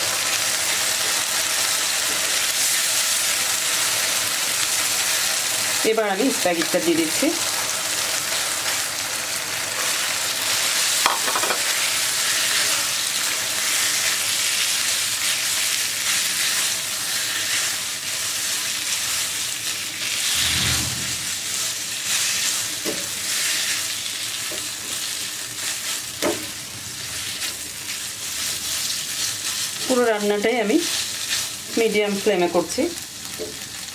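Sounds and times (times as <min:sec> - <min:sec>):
noodles sizzling in a pan: 0:00.0 - 0:20.3, 0:21.4 - 0:33.9.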